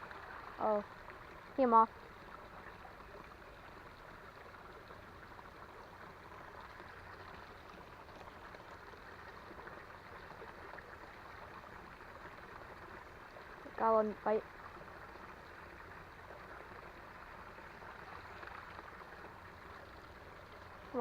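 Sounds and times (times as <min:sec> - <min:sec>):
faint creek water flowing: 0:00.0 - 0:21.0.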